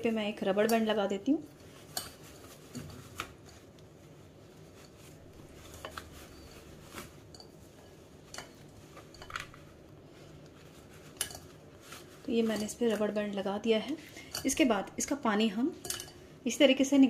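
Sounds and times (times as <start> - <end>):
cloth rustling: 0.0 - 16.4.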